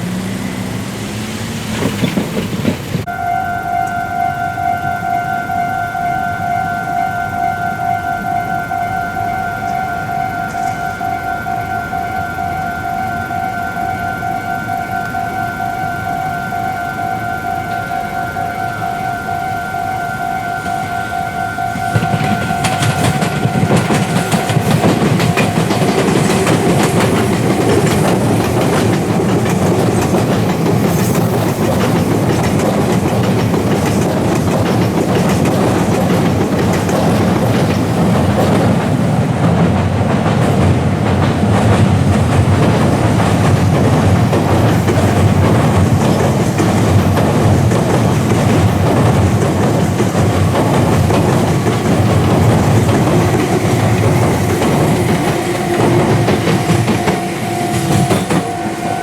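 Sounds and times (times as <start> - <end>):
wheels clattering over rail joints: 0.0 - 59.0
electronic crossing bell: 3.1 - 39.0, 42.0 - 59.0.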